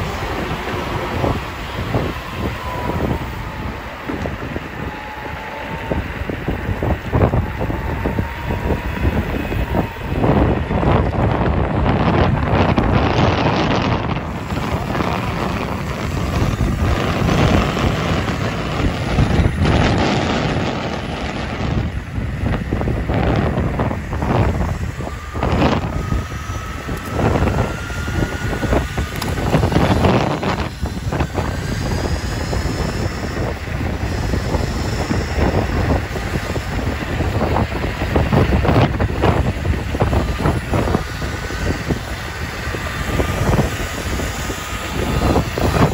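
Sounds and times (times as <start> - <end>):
faint steady whine: 0.0 - 45.9
wheels rumbling on asphalt: 0.0 - 45.9
wind buffeting microphone: 0.0 - 45.9.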